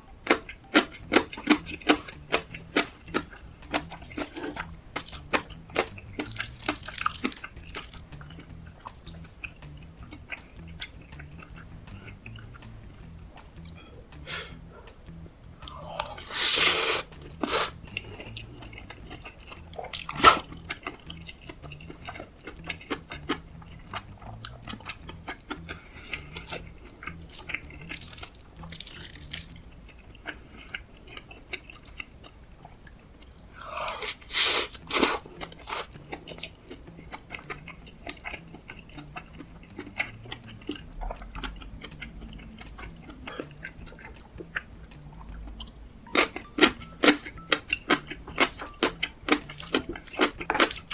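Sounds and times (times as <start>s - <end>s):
person chewing food: 0.2s - 50.9s.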